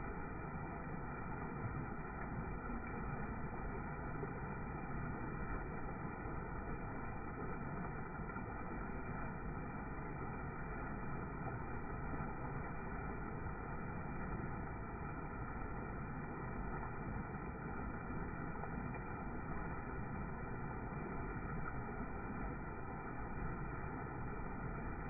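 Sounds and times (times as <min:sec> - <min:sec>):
water rushing over waterfall: 0:00.0 - 0:25.0.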